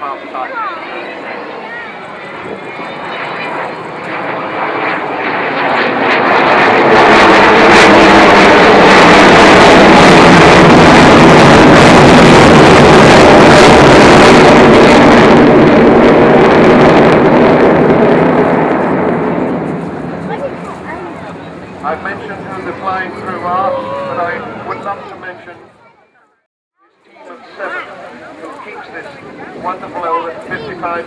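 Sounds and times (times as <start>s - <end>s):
jet aircraft passing: 0.0s - 26.0s, 27.5s - 31.0s.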